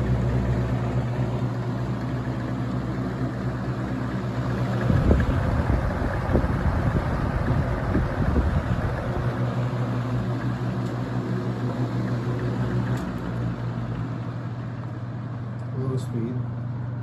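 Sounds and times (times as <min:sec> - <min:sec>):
box fan running: 0:00.0 - 0:17.0
fan blades vibrating rumble: 0:00.0 - 0:17.0.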